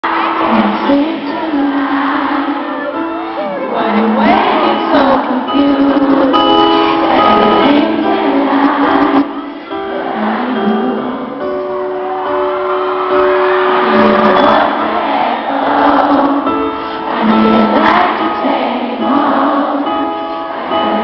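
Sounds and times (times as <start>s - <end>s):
audience voices: 0.0s - 21.0s
piano chords: 0.0s - 21.0s.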